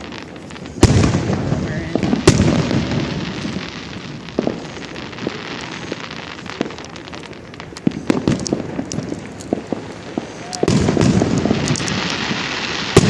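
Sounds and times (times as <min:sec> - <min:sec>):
fireworks hiss: 0:00.0 - 0:13.0
fireworks popping and crackling: 0:00.0 - 0:13.0.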